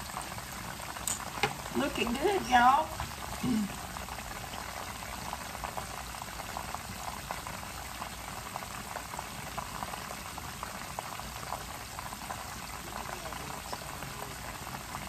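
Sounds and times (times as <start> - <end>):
chicken frying with crackles: 0.0 - 15.0.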